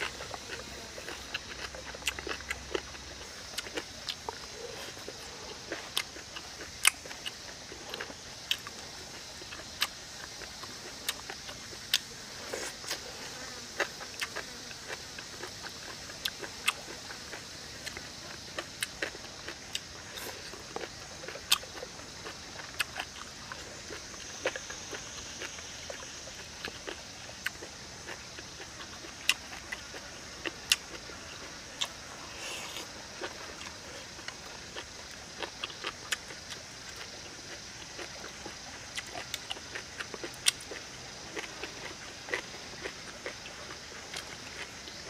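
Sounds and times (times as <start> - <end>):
person chewing and lip-smacking: 0.0 - 13.0, 13.7 - 32.0, 32.6 - 45.0
high insect buzz: 0.0 - 45.0.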